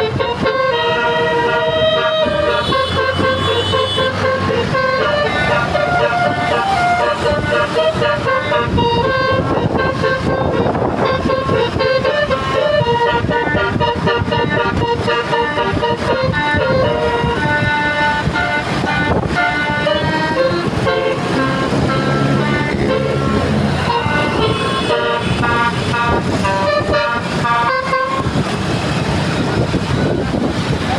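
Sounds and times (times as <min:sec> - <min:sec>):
multi-tone bus horn tune: 0:00.0 - 0:30.2.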